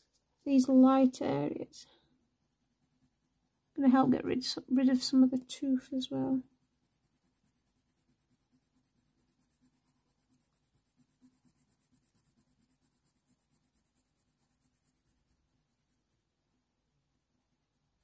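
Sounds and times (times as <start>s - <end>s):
pencil scratching on paper: 0.0s - 18.0s.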